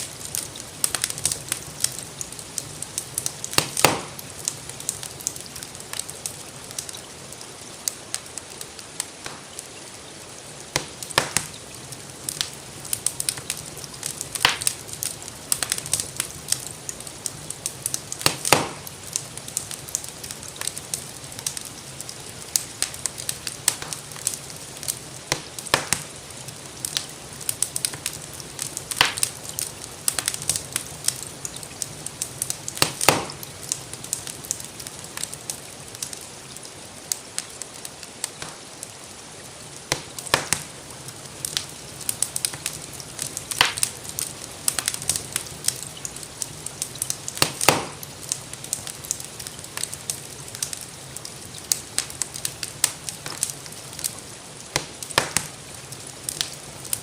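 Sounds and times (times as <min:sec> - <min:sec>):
steady rain hiss: 0:00.0 - 0:57.0
wood fire crackling: 0:00.0 - 0:57.0.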